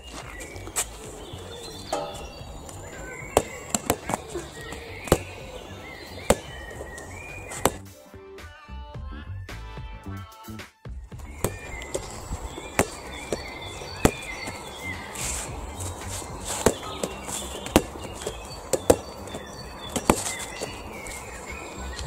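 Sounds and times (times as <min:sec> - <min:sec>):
rubber ball bouncing slaps: 0:00.8 - 0:07.8, 0:11.2 - 0:22.0.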